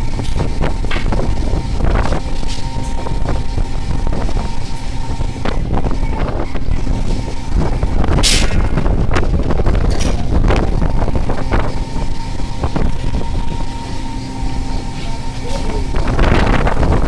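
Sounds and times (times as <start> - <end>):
engine and wind rumble: 0.0 - 17.0
machinery hum: 0.0 - 17.0
rush of wind or water: 0.0 - 17.0.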